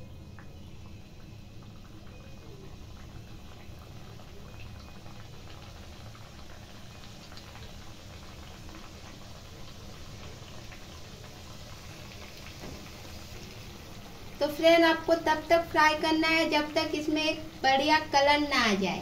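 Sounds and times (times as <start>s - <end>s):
dough sizzling in hot oil: 0.0s - 19.0s
low steady hum: 0.0s - 19.0s.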